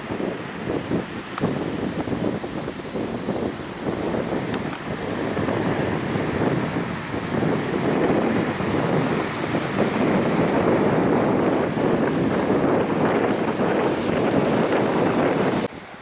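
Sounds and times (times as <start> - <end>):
beach surf: 0.0 - 16.0
wind buffeting microphone: 0.0 - 16.0.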